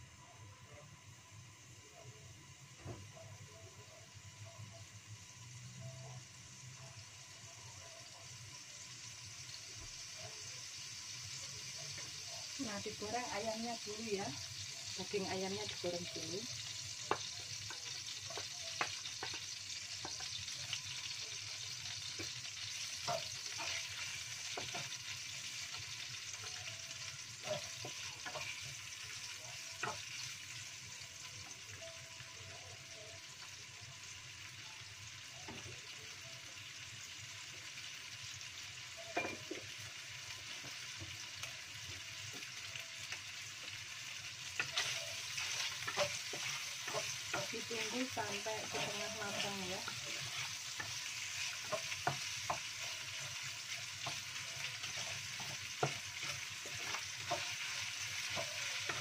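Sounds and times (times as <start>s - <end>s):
chicken sizzling in a wok: 0.0s - 59.0s.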